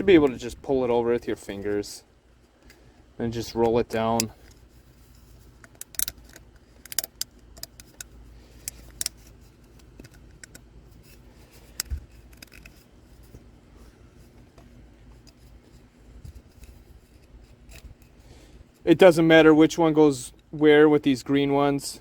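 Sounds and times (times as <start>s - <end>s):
hands working rubber rings: 0.0s - 21.9s.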